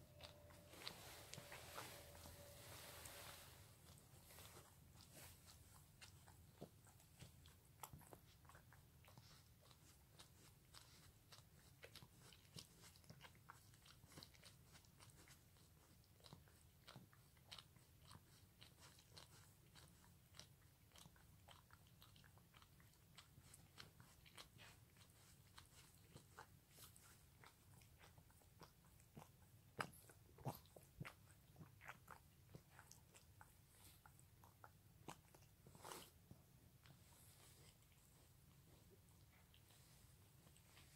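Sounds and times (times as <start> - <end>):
dog licking paw: 0.1 - 40.9.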